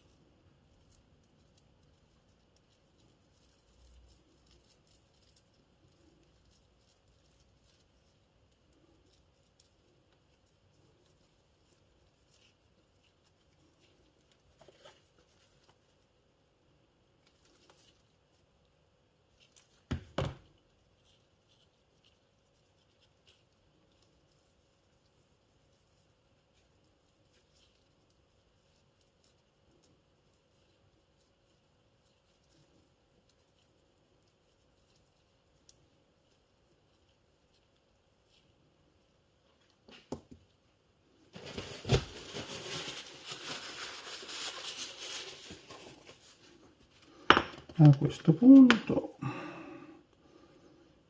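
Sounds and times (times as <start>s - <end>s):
rustling and scraping of parts: 0.0s - 48.3s.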